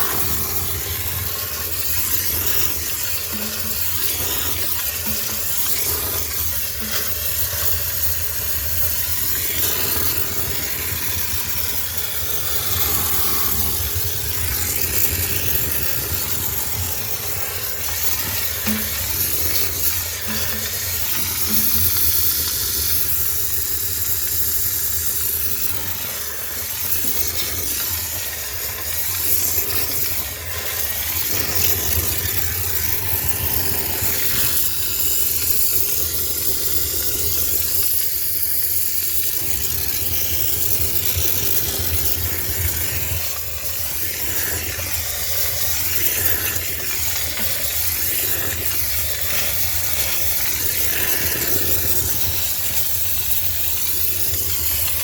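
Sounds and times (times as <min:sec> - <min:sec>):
steam cleaner hissing: 0:00.0 - 0:55.0.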